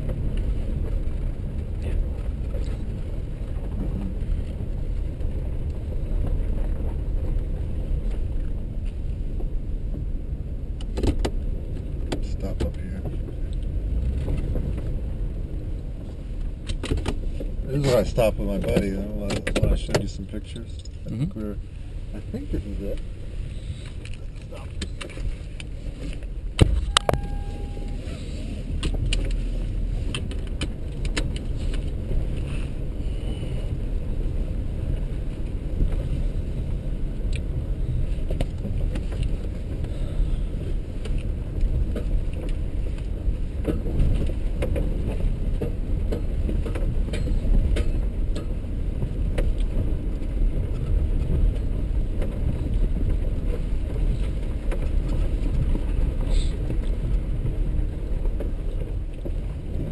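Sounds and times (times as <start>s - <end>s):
rattles and knocks over rocks: 0.0s - 26.9s, 28.7s - 59.9s
vehicle engine and tyres rumbling: 0.0s - 59.9s.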